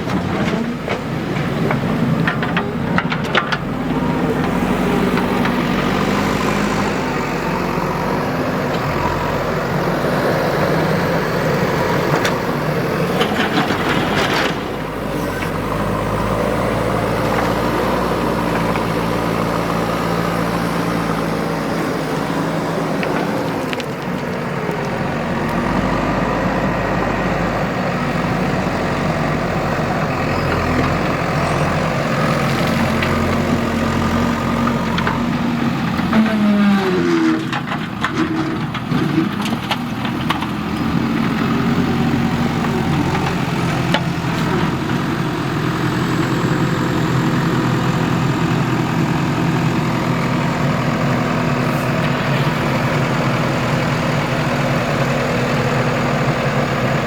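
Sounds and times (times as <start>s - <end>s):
backhoe diesel engine under load: 0.0s - 57.0s.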